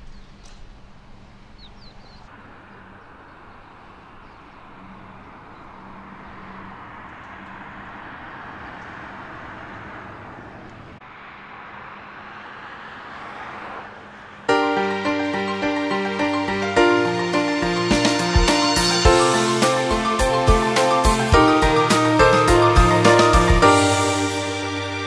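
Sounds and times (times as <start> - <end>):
cars passing on a road: 0.0 - 25.0.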